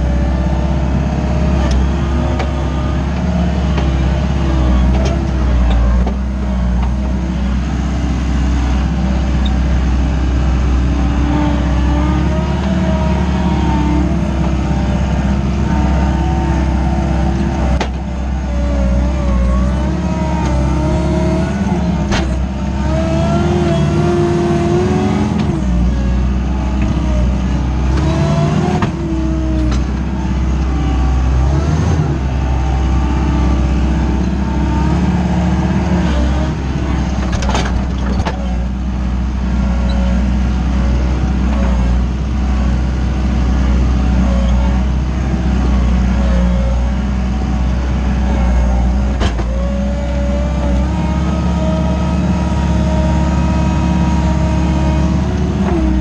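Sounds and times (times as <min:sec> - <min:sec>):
diesel engine running hard: 0:00.0 - 0:56.0.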